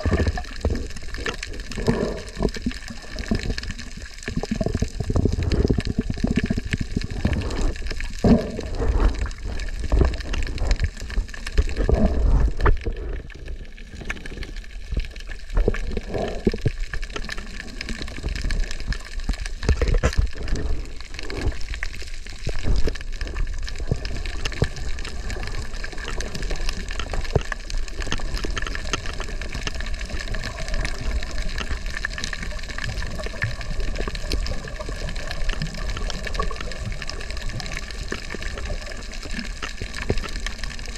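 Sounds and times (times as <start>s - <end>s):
underwater water sloshing: 0.0s - 40.9s.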